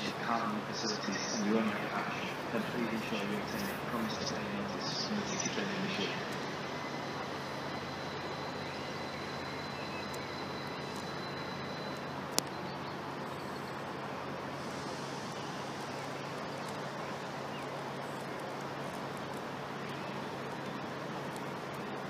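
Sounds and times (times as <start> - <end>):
faint high whine: 0.0 - 22.0
train hum and rumble: 0.0 - 22.0.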